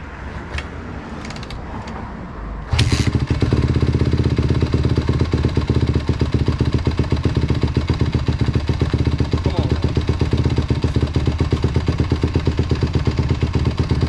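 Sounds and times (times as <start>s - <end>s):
dirt bike kick-started and running: 2.7s - 14.0s.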